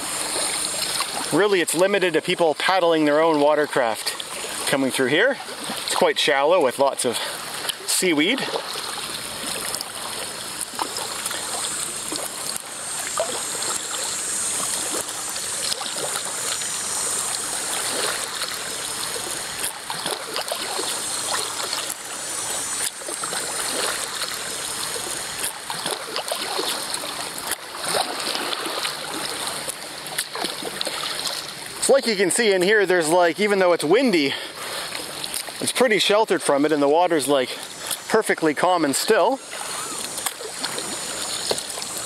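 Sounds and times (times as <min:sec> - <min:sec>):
kayak paddle water splashing: 0:00.0 - 0:42.0.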